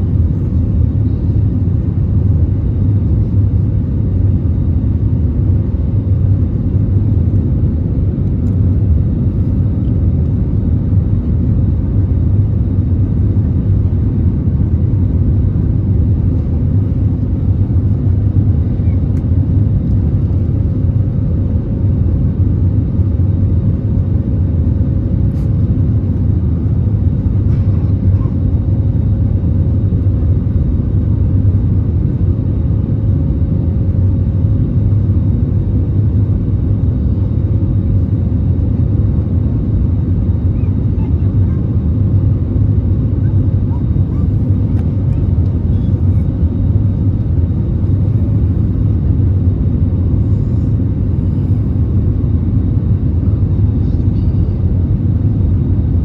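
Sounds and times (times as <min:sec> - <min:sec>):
airplane cabin rumble: 0:00.0 - 0:56.0
faint steady hum: 0:00.0 - 0:56.0.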